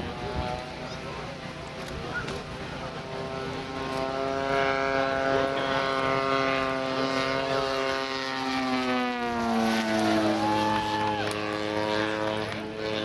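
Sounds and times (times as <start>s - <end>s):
model airplane propeller engine: 0.0s - 13.0s.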